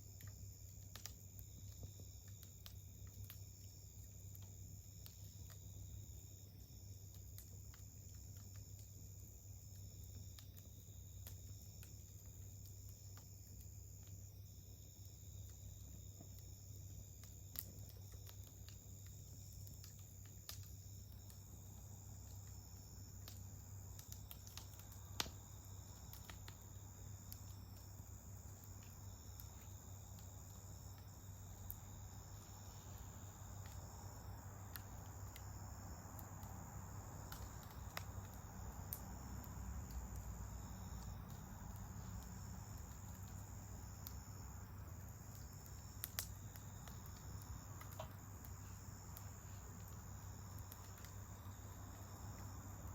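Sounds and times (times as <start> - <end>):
campfire popping and crackling: 0.0 - 52.9
crickets trilling: 0.0 - 52.9.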